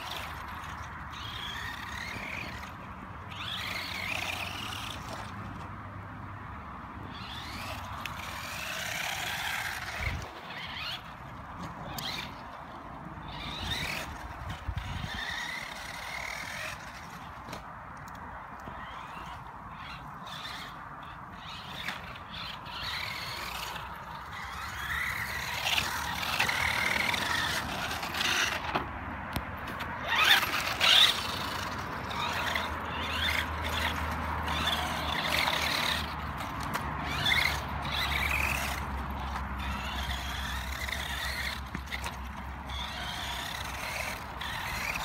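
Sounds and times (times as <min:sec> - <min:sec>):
radio-controlled car motor whining: 0:00.0 - 0:05.7, 0:07.0 - 0:45.0.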